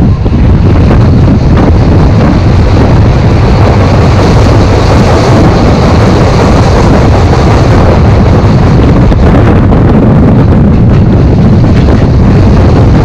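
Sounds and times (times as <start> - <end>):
train wheels rumbling on track: 0.0 - 13.0
wind buffeting microphone: 0.0 - 13.0.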